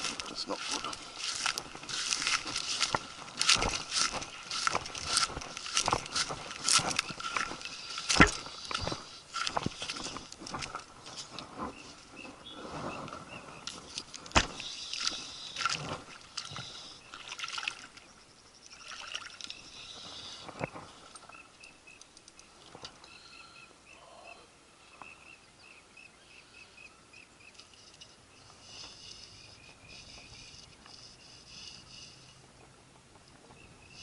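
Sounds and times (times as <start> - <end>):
rod and reel handling noise: 0.0 - 23.1, 27.5 - 32.4.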